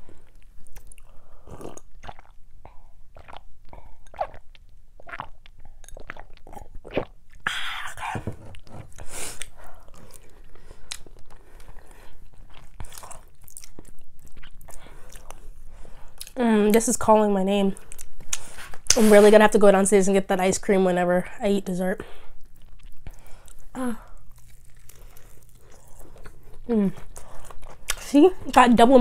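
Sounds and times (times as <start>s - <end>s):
person chewing food: 0.0s - 16.4s, 17.8s - 19.0s, 22.1s - 28.1s.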